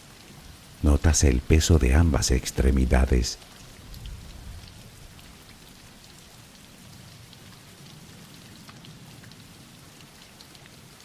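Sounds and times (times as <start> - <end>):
soft rain falling: 0.0 - 11.0.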